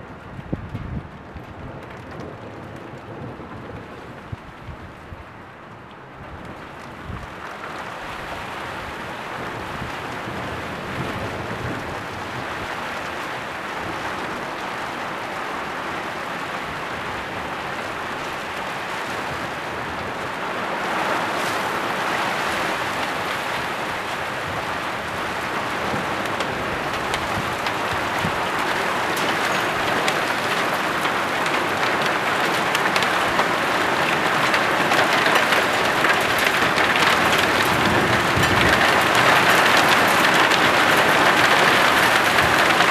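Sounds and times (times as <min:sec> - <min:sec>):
heavy rain on foliage: 0:00.0 - 0:42.9.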